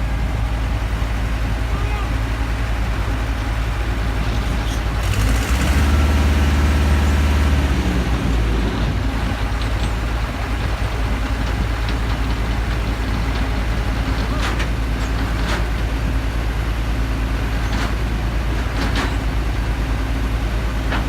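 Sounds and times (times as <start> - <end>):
heavy engine rumbling: 0.0 - 21.0.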